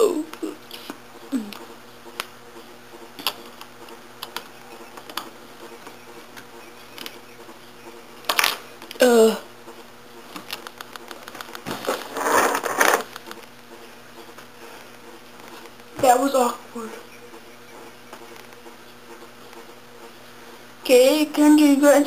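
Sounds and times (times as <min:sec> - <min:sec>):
steady buzzing hum: 0:00.0 - 0:22.0.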